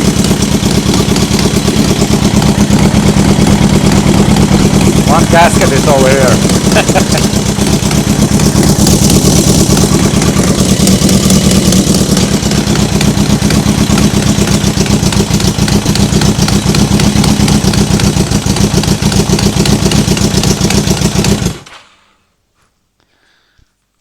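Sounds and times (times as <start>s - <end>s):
motorcycle engine idling: 0.0s - 21.7s.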